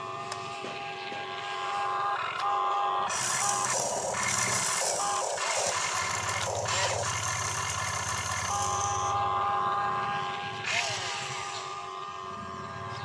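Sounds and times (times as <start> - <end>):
small electric motor whine: 0.0 - 13.0.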